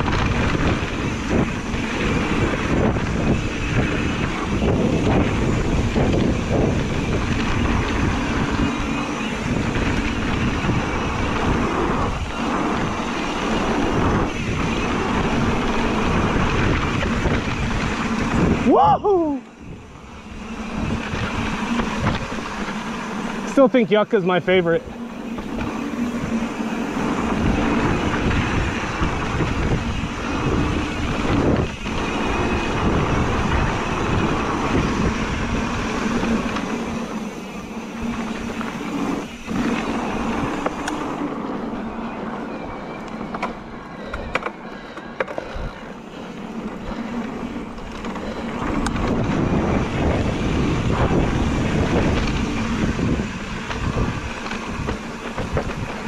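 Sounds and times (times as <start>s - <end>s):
tyres running on dirt: 0.0s - 56.0s
wind rushing over microphone: 0.0s - 56.0s.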